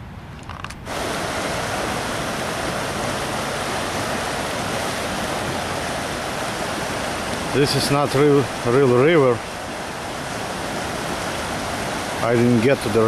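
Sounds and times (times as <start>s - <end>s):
floodwater rushing: 0.8s - 13.0s.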